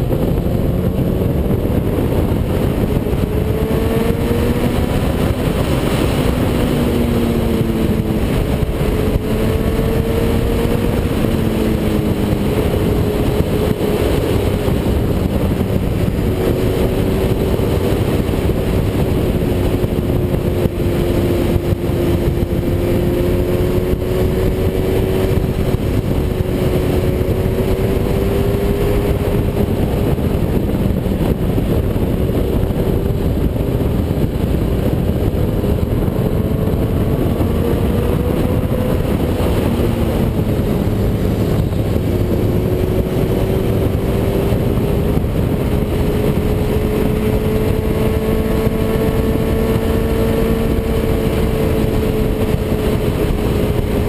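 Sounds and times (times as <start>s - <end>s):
motorcycle engine cruising: 0.0s - 54.0s
wind rush: 0.0s - 54.0s.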